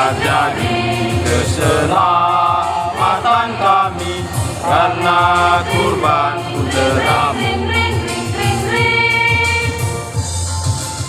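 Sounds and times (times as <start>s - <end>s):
choir singing a hymn: 0.0s - 9.9s.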